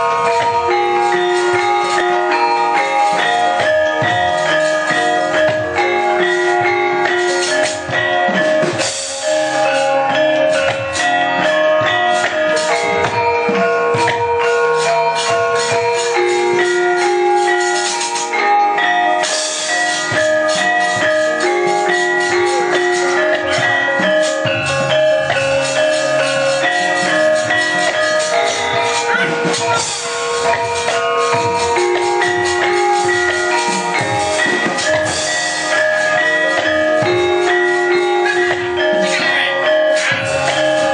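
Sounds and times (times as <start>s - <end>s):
hand drum strokes: 0.0s - 40.9s
metallophones and gongs ringing: 0.0s - 40.9s.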